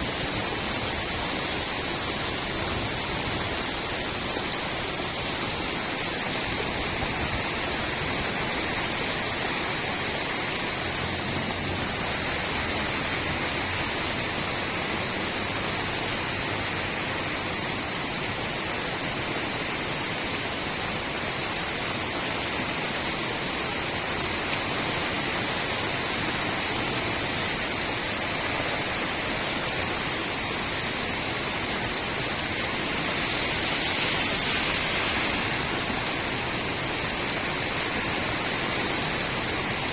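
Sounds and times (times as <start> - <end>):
rain falling on street: 0.0 - 39.9.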